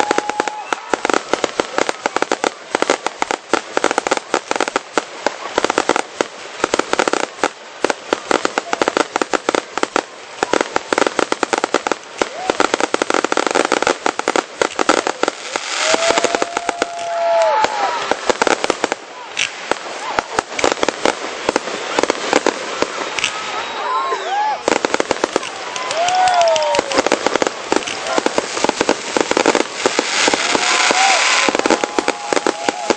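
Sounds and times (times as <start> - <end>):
fireworks bangs and crackling: 0.0 - 32.9.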